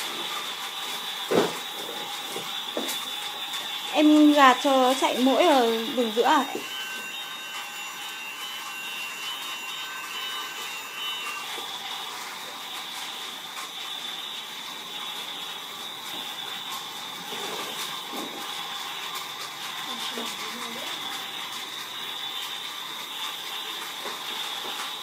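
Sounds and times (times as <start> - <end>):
toy train motor whirring: 0.0 - 25.0
toy train wheels rattling: 0.0 - 25.0.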